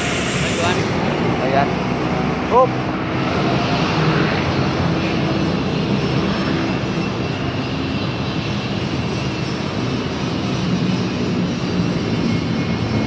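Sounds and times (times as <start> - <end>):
bus engine running: 0.0 - 12.0
road noise: 0.0 - 13.0.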